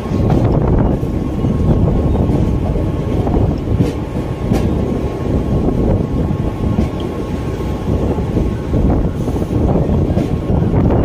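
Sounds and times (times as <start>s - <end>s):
rumble of train wheels on rails: 0.0s - 11.0s.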